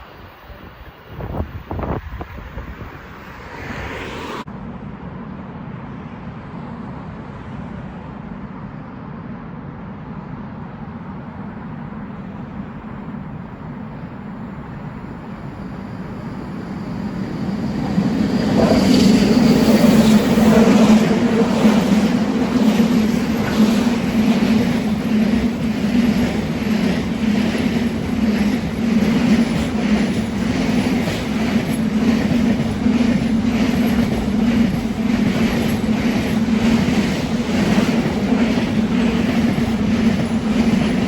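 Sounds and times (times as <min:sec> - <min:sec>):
freight train rumbling past: 0:00.0 - 0:41.0.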